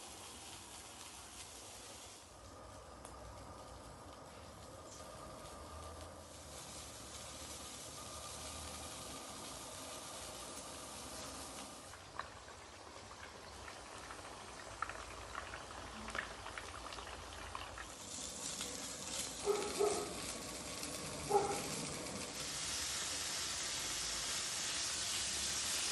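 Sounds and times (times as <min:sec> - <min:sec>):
gas grill hissing: 0:00.0 - 0:25.9.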